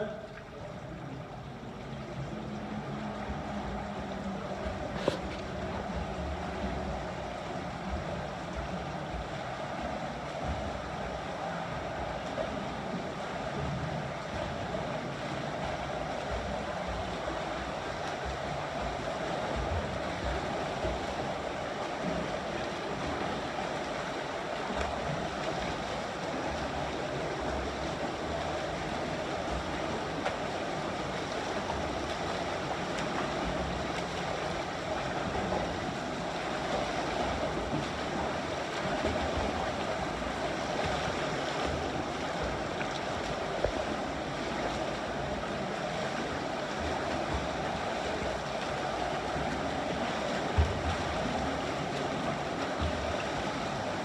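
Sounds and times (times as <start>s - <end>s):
water washing: 0.0s - 54.0s.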